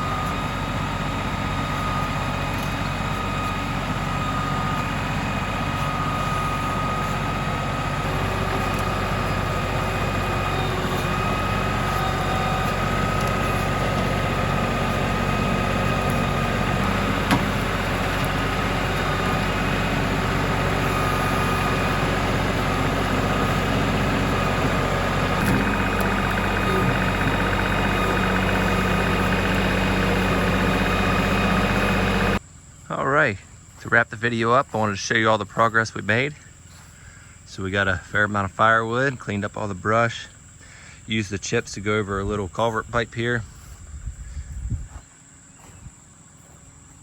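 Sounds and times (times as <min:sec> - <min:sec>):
tractor diesel engine whining: 0:00.0 - 0:47.0.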